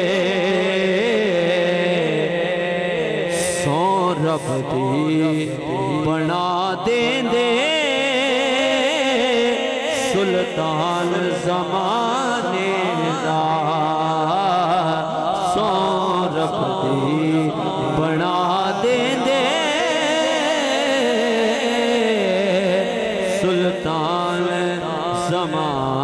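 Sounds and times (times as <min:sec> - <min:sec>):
man singing into microphone: 0:00.0 - 0:26.0.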